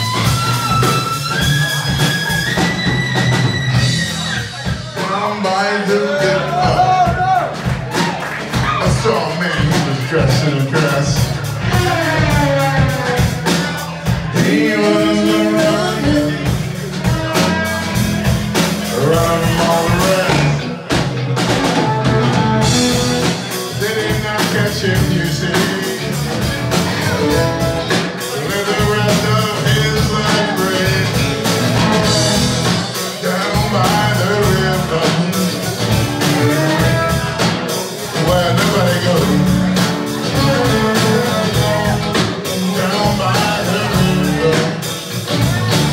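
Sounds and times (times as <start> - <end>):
drum kit: 0.0 - 45.9.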